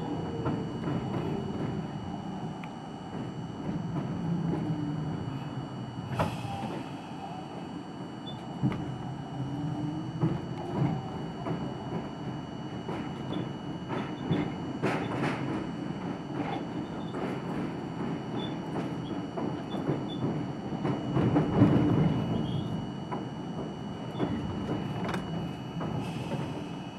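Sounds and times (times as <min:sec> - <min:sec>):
subway train running: 0:00.0 - 0:26.9.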